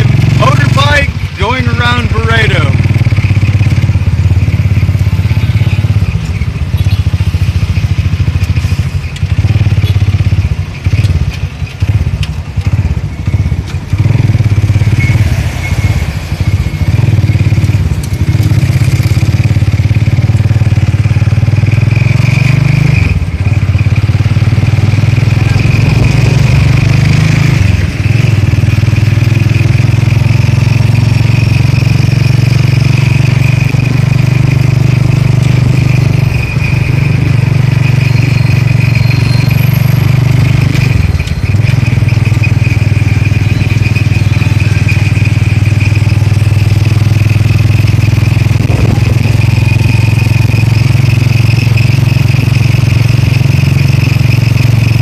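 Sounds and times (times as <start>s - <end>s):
small motorcycle engine droning: 0.0s - 55.0s.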